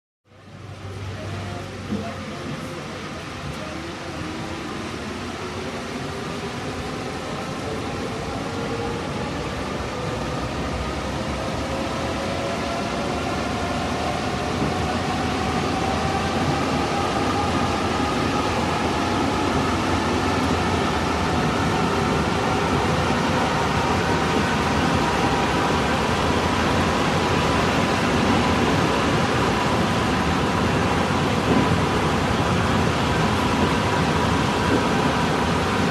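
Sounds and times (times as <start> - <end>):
train running rumble and hiss: 0.3 - 35.9.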